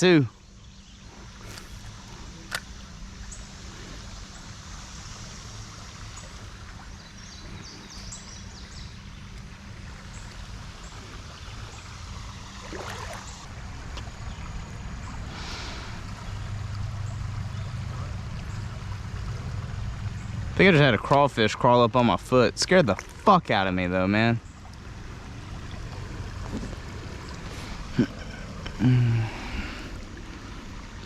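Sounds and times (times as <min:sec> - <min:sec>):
creek water running: 0:00.0 - 0:31.0.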